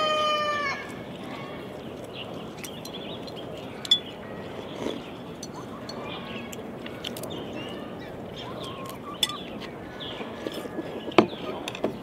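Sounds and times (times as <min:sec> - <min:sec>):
outdoor background noise: 0:00.0 - 0:12.0
small birds chirping: 0:00.9 - 0:12.0.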